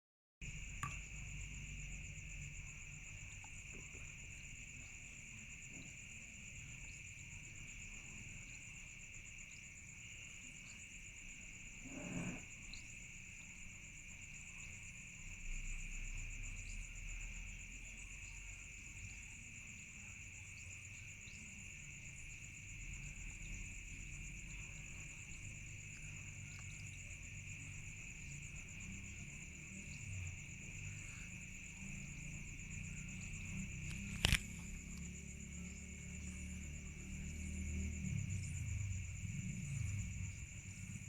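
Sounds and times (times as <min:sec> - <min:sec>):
high-pitched insect chorus: 0:00.4 - 0:41.0.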